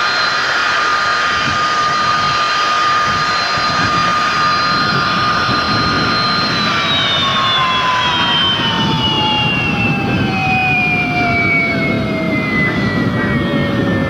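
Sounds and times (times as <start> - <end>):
jet engine winding down: 0.0 - 14.0.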